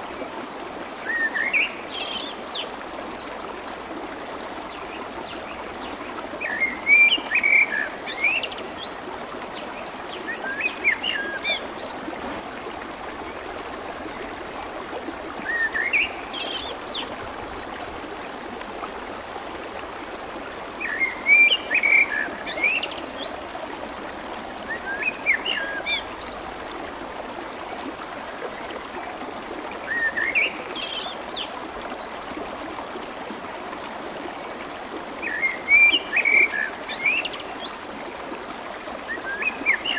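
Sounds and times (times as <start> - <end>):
water running and babbling: 0.0 - 39.9.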